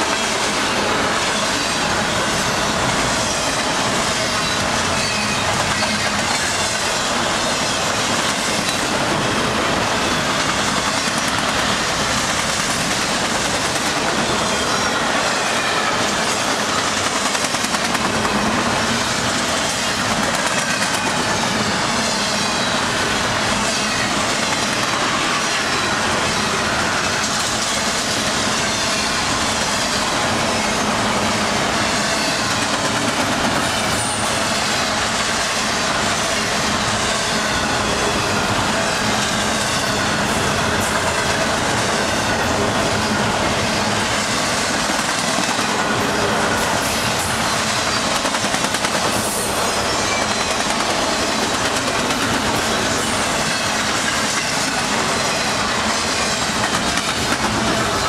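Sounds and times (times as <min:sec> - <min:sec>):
steel wheels rolling on rail: 0:00.0 - 0:58.0.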